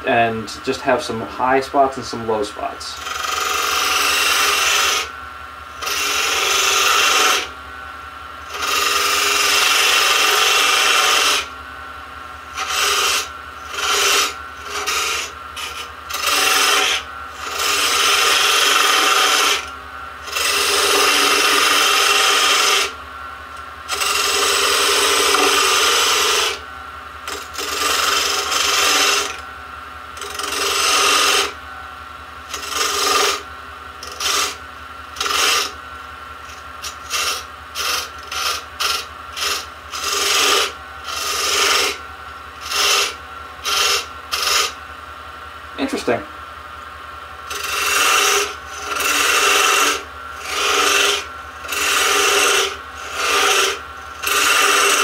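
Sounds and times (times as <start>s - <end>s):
lathe tool scraping wood: 0.0s - 7.6s, 8.4s - 11.6s, 12.4s - 26.6s, 27.2s - 29.5s, 30.1s - 31.8s, 32.4s - 44.8s, 47.4s - 55.0s
lathe humming: 0.0s - 55.0s.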